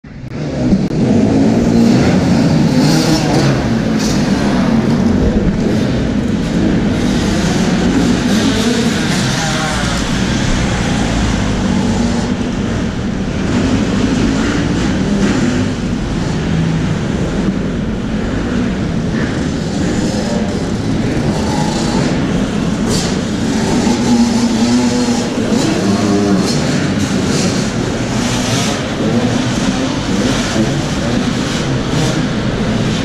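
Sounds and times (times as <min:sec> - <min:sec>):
motocross bike engines revving: 0:00.1 - 0:33.0.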